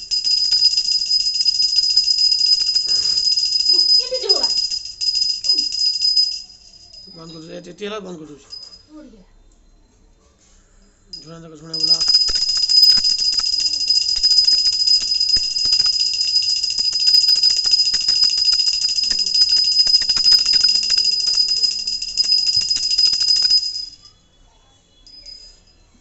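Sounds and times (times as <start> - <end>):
hand bell ringing rapidly: 0.0 - 7.5, 8.5 - 8.9, 11.1 - 24.2, 25.0 - 25.8.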